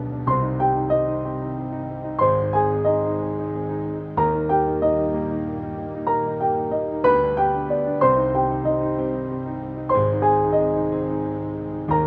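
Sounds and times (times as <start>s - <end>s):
calm background music: 0.0s - 12.0s.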